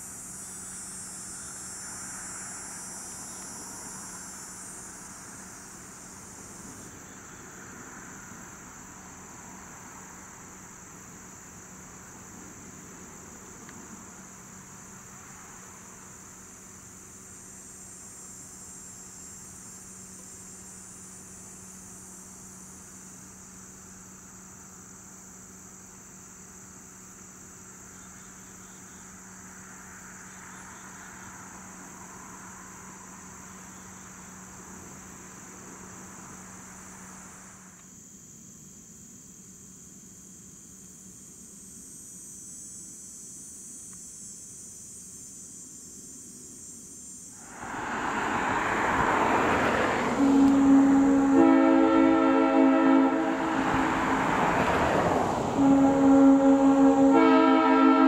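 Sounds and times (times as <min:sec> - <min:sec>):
distant diesel locomotive hum: 0:00.0 - 0:37.8, 0:47.3 - 0:58.0
insects chirring: 0:00.0 - 0:58.0.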